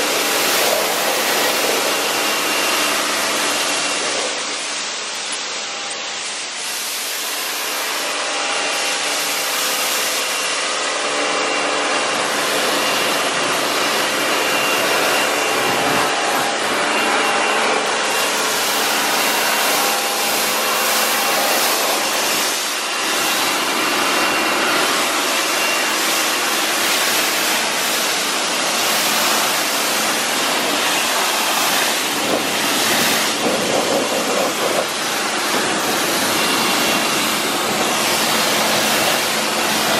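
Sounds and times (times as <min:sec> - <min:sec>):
pressure washer jet spattering: 0:00.0 - 0:08.0, 0:12.1 - 0:39.9.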